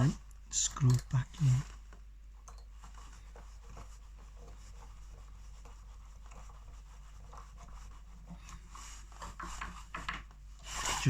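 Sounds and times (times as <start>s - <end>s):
faint scratching: 0.6s - 11.0s.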